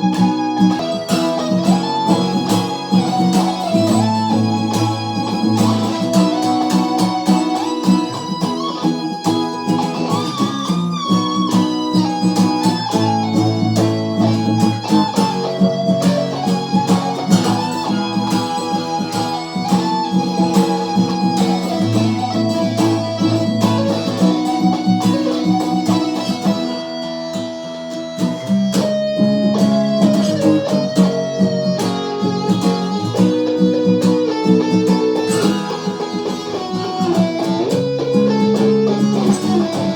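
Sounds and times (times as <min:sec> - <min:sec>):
guitar playing picked notes: 0:00.0 - 0:39.9.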